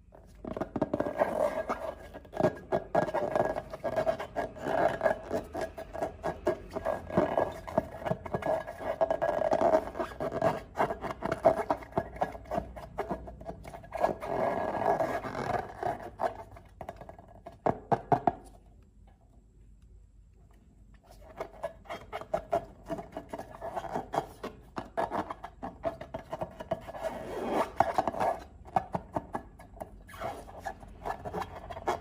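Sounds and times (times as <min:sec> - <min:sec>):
slime rubbing and scraping: 0:00.0 - 0:17.6, 0:21.0 - 0:32.0.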